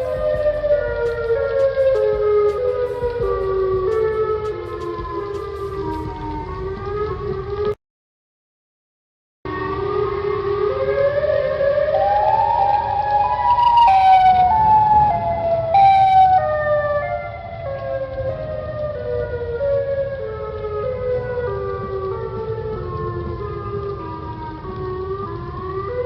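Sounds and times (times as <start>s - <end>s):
warning siren: 0.0s - 7.8s, 9.5s - 26.0s.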